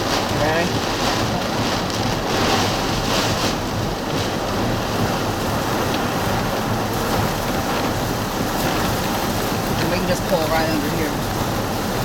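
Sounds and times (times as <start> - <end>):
strong wind around a vehicle: 0.0 - 12.0.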